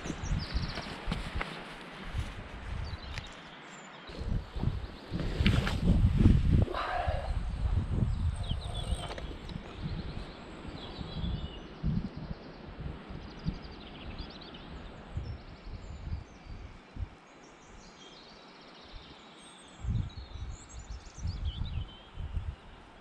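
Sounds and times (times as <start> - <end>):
wind buffeting microphone: 0.0 - 3.4, 4.1 - 17.2, 19.8 - 23.0
small birds trilling and chirping: 0.0 - 23.0.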